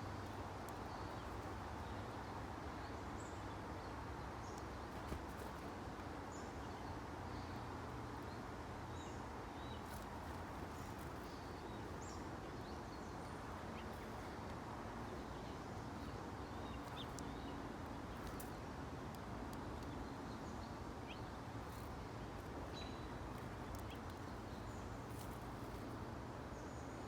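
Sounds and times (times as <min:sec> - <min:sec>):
outdoor background hiss: 0:00.0 - 0:27.0
small birds chirping: 0:00.0 - 0:27.0.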